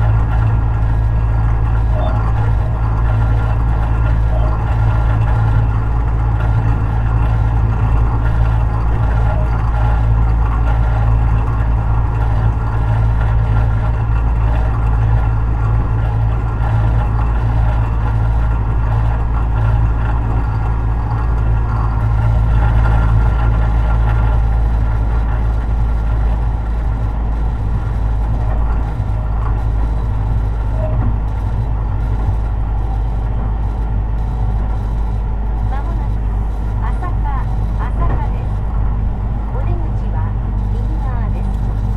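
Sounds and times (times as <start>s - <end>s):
traction motor hum: 0.0s - 41.9s
train wheels rumbling on rail: 0.0s - 41.9s.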